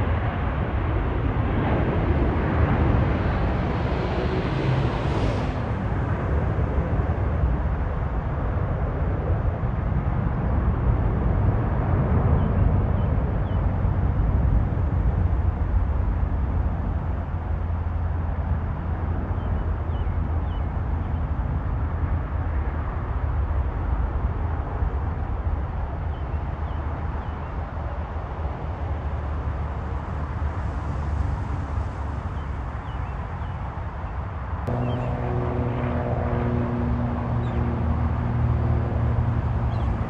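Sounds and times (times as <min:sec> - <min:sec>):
distant aircraft engine rumble: 0:00.0 - 0:40.0.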